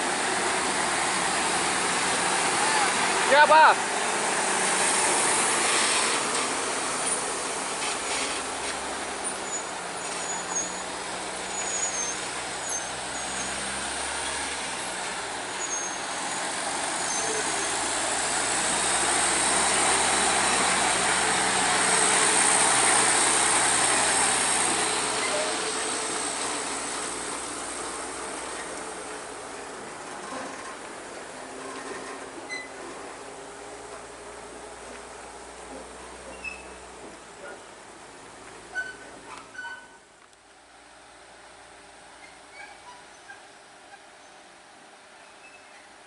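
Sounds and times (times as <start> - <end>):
heavy trucks running: 0.0 - 46.0.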